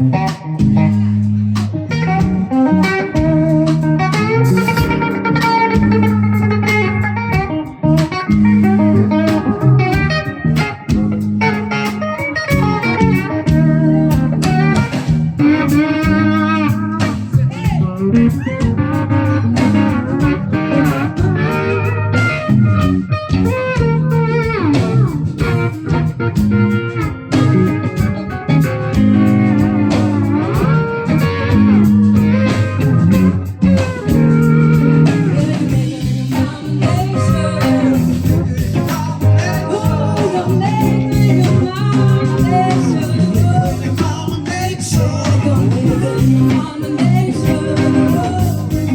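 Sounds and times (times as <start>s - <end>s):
electric guitar solo: 0.0s - 48.9s
live band playing: 0.0s - 48.9s.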